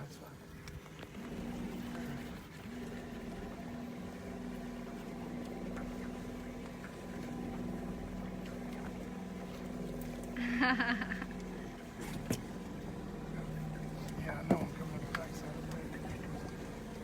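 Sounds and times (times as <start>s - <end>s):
propeller churning water: 0.0s - 17.0s
electric boat motor whining: 0.3s - 17.0s.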